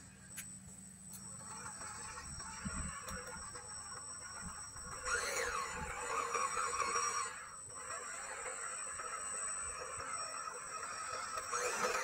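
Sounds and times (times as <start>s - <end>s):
toy car electric motor whining: 1.1s - 12.0s.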